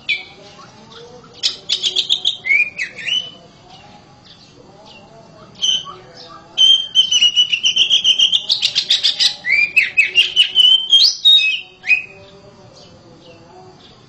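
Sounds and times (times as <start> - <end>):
bird singing whistles and trills: 0.0 - 3.4, 4.3 - 12.9.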